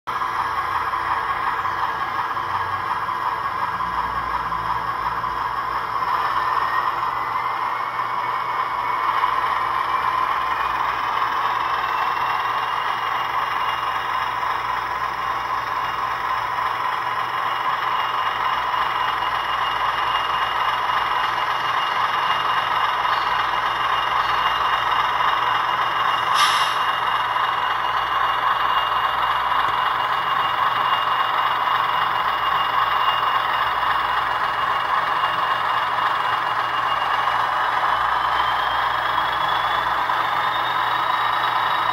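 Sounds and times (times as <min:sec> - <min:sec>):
diesel engine drone from speaker: 0:00.1 - 0:41.9.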